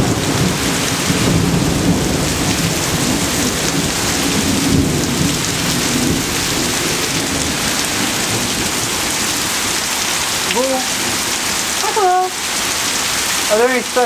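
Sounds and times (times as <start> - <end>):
heavy rain pouring: 0.0 - 14.0
thunder rumbling: 0.0 - 14.0.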